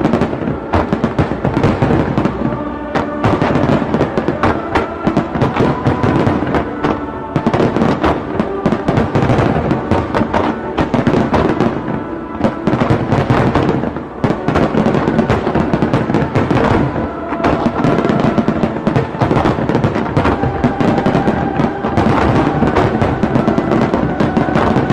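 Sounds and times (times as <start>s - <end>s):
fireworks bangs and crackles: 0.0s - 24.9s
music playing: 0.0s - 24.9s.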